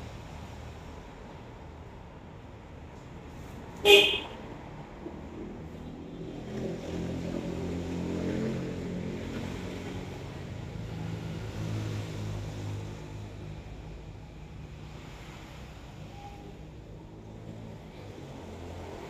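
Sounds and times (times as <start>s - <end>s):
passing vehicle engine hum: 0.0s - 19.0s.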